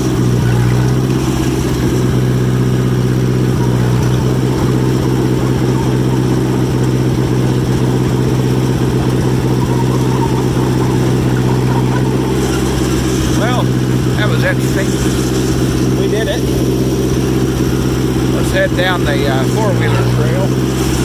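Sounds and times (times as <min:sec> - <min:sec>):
dozer engine running steadily: 0:00.0 - 0:21.0.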